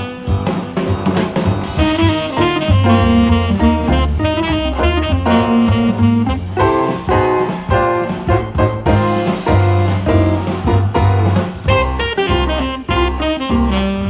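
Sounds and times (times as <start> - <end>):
jazz from portable speaker: 0.0 - 14.0.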